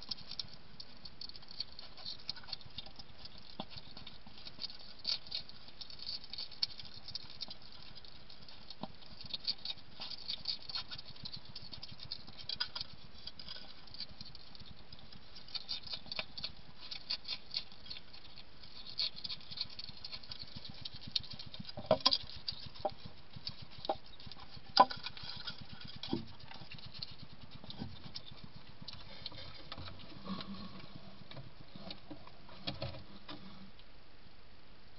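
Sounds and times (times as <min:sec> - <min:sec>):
hedgehog crunching biscuits: 0:00.0 - 0:32.9.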